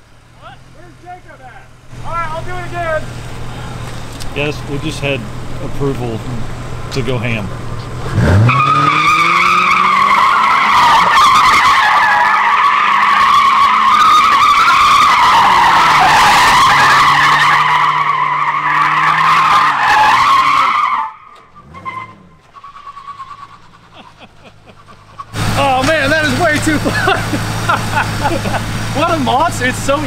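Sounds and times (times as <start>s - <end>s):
car engine revving: 0.0s - 30.0s
car tyres squealing: 0.0s - 30.0s.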